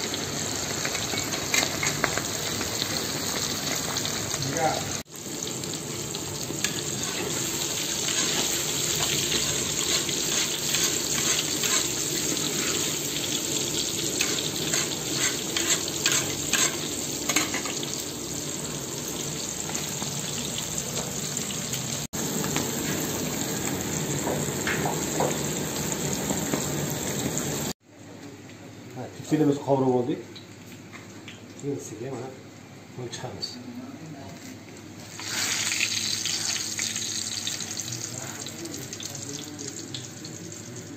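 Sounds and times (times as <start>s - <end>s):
meatballs sizzling in hot oil: 0.0s - 27.8s, 35.0s - 40.9s.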